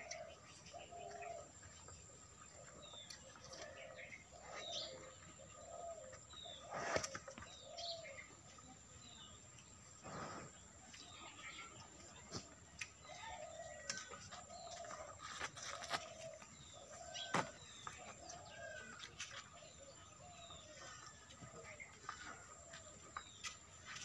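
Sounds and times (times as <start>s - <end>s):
farmyard bird calls: 0.0s - 24.0s.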